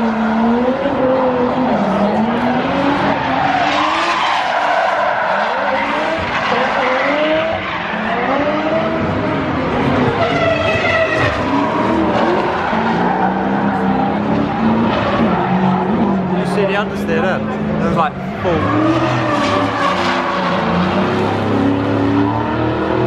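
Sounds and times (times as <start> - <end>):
tyres squealing and skidding: 0.0 - 22.9
car engines revving: 0.0 - 23.0.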